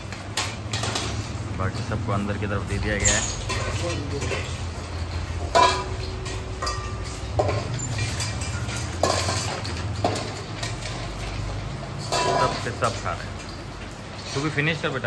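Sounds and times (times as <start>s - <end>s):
metal bowls clanking on floor: 0.0s - 15.0s.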